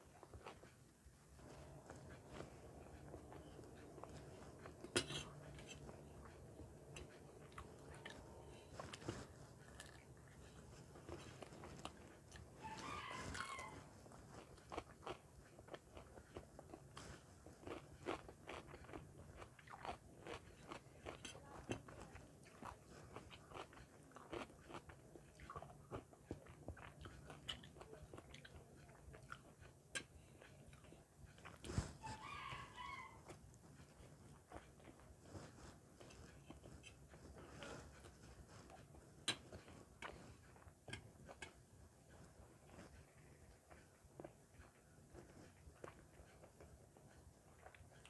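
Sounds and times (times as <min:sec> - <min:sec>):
chewing and crunching food: 0:00.0 - 0:48.0.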